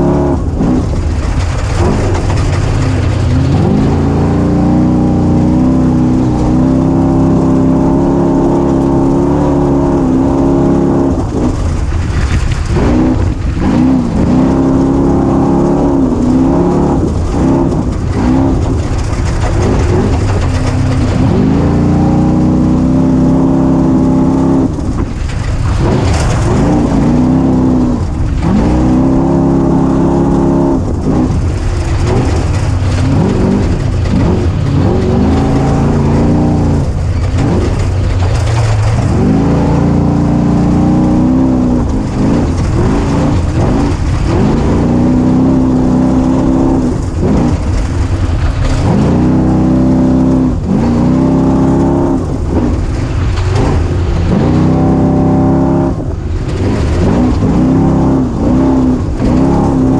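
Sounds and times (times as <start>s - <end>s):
steady rushing noise: 0.0s - 59.9s
engine revving hard: 1.8s - 11.5s, 12.7s - 24.8s, 25.7s - 59.9s.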